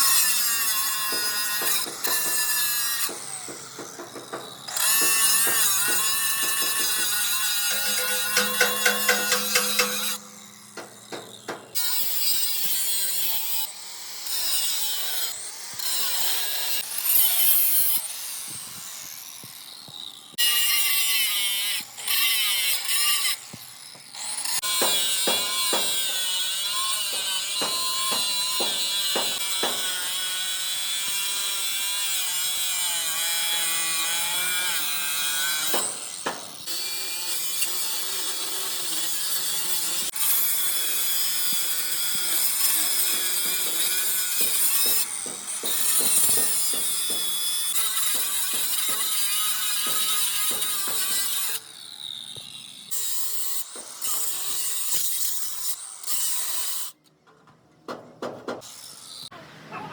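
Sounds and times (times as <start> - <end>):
angle grinder on steel: 0.0 - 18.4, 24.1 - 57.0.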